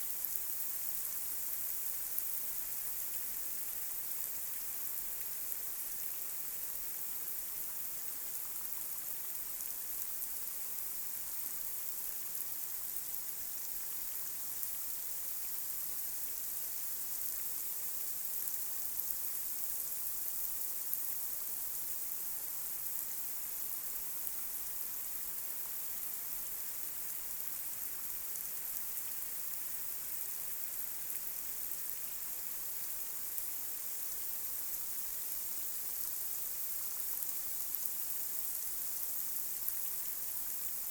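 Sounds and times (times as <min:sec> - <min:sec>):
light rain on street: 0:00.0 - 0:40.9.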